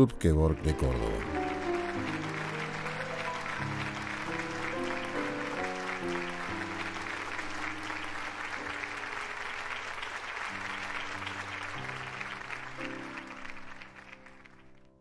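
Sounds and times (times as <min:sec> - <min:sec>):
audience applauding: 0:00.3 - 0:15.0.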